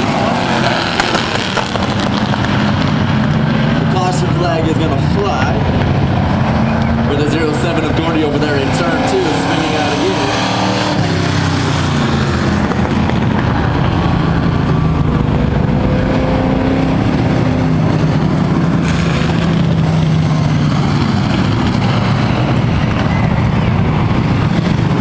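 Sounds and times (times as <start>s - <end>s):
race truck engines running: 0.0s - 25.0s.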